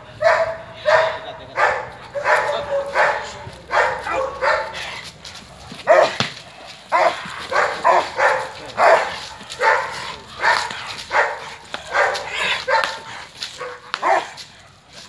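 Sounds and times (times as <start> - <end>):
dogs barking: 0.1 - 5.1, 5.8 - 14.8.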